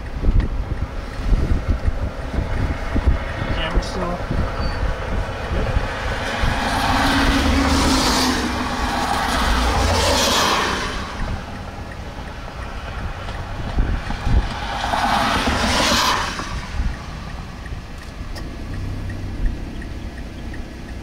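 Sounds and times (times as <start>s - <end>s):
vehicle passing on road: 0.0s - 21.0s
wind rumbling on microphone: 0.0s - 21.0s.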